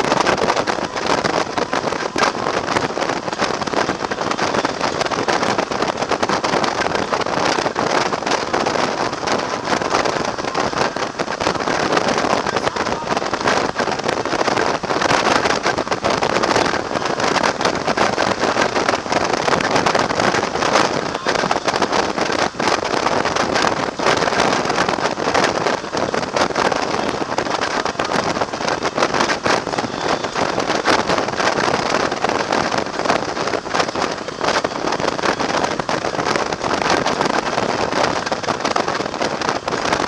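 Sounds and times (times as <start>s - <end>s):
road noise: 0.0s - 40.0s
wind rushing over microphone: 0.0s - 40.0s.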